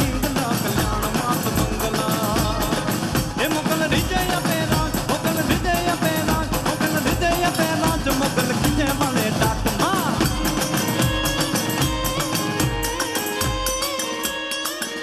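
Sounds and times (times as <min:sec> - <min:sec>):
fast drum beat: 0:00.0 - 0:15.0.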